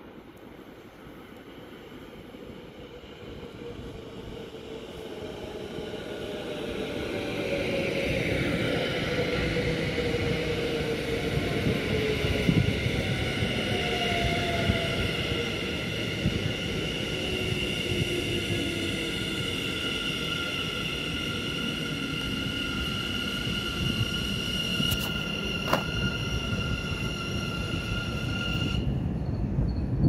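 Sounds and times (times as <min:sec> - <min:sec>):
rumbling train wheels: 0:00.0 - 0:30.0.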